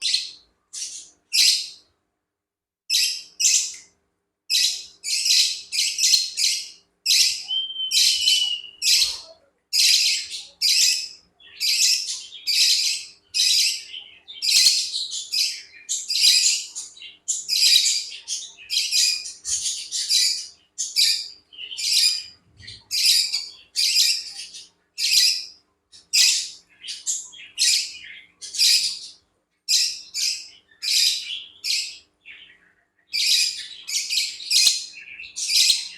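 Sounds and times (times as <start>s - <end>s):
birds chirping: 0.0s - 2.0s, 2.9s - 35.9s.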